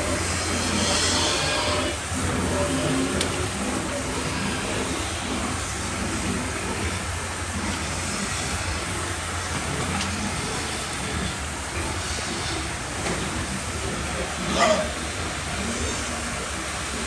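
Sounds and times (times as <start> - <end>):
water spraying hiss: 0.0 - 17.0.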